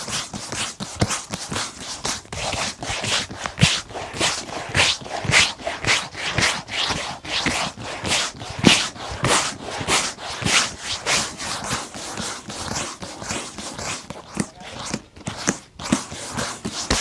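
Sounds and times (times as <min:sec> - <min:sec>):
shoe brush scrubbing leather: 0:00.0 - 0:17.0.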